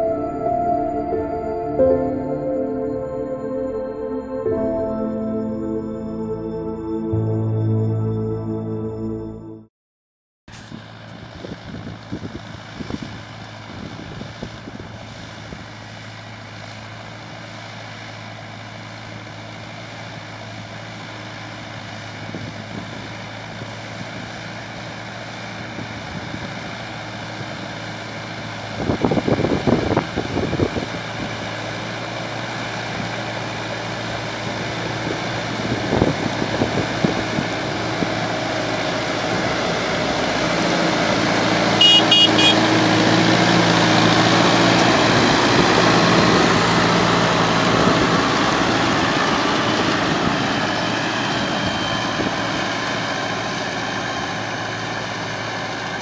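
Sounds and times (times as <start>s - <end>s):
tractor diesel engine running: 10.8s - 56.0s.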